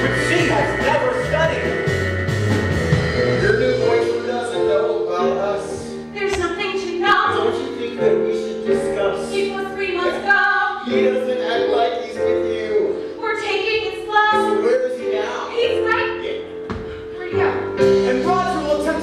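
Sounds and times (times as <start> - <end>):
band accompaniment: 0.0 - 10.4, 11.0 - 19.0.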